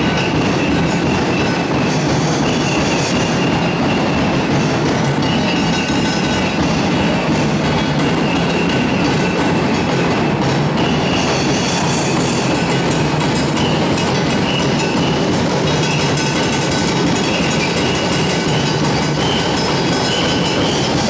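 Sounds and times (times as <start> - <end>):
fast dense drumming: 0.0 - 21.0.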